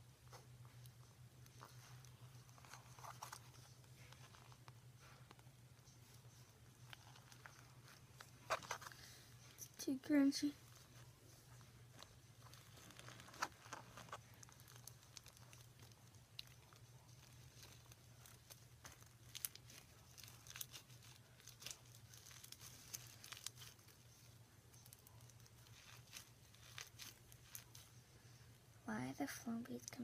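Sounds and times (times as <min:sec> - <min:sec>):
slime with beads crackling: 0:00.3 - 0:28.4.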